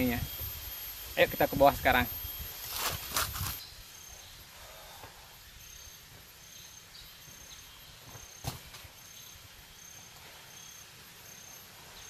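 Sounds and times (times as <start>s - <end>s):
insect chirping: 0.0s - 12.0s
steady hiss: 0.0s - 12.0s.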